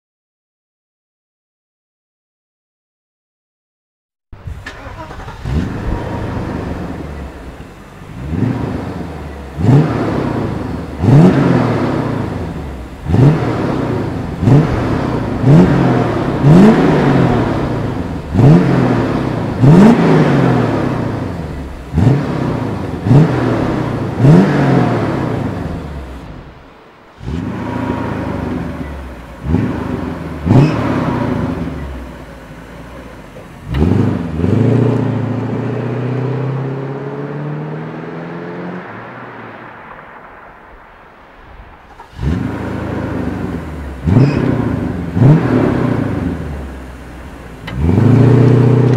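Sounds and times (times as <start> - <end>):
car engine revving: 4.4 - 48.9
car accelerating away: 4.5 - 41.1, 41.8 - 48.9.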